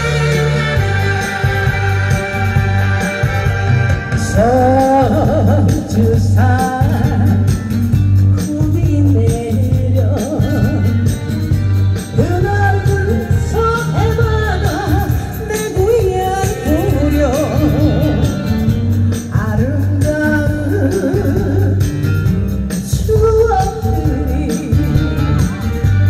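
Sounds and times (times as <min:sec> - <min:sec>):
instrumental accompaniment with beat: 0:00.0 - 0:26.0
woman singing into microphone: 0:00.0 - 0:26.0.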